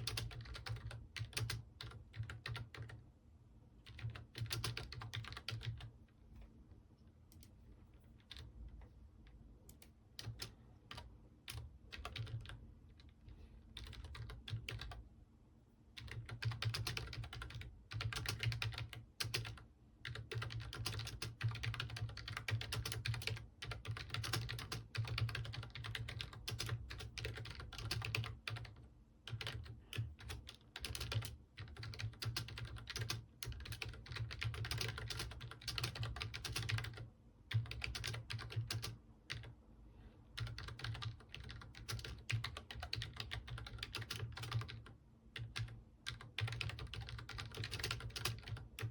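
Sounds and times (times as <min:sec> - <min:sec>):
computer keyboard typing: 0:00.0 - 0:03.0, 0:03.8 - 0:05.9, 0:07.3 - 0:15.0, 0:16.0 - 0:39.6, 0:40.4 - 0:48.9.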